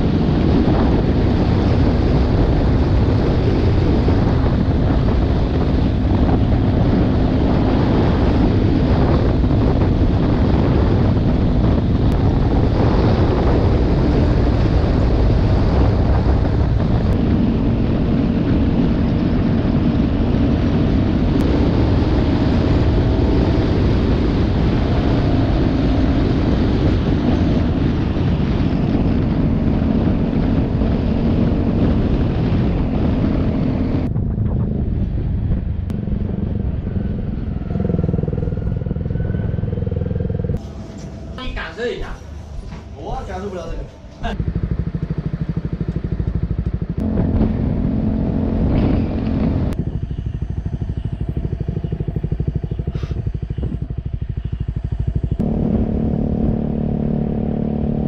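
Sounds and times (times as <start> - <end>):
motorcycle engine drone: 0.0 - 58.0
wind rush on microphone: 0.0 - 58.0.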